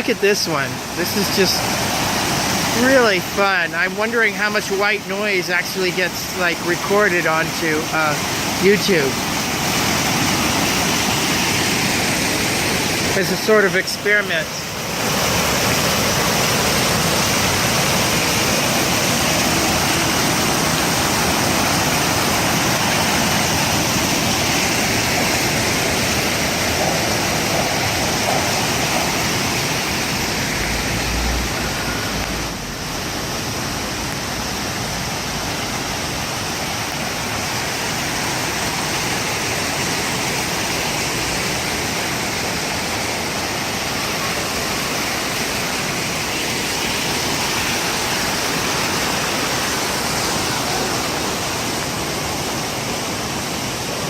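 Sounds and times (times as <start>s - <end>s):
water fountains splashing: 0.0s - 54.0s.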